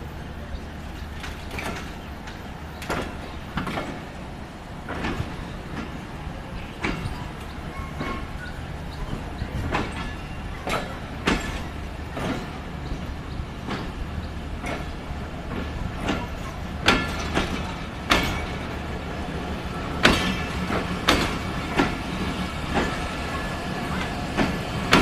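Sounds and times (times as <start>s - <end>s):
train rumbling on rails: 0.0s - 25.0s
wheels clacking: 0.4s - 25.0s.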